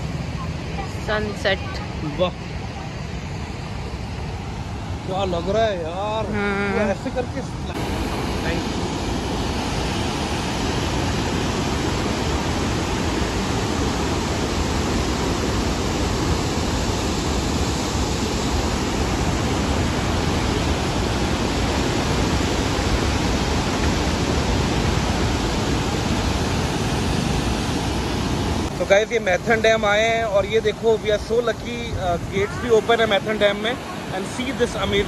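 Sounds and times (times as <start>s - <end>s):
floodwater rushing from spillway: 0.0s - 35.0s.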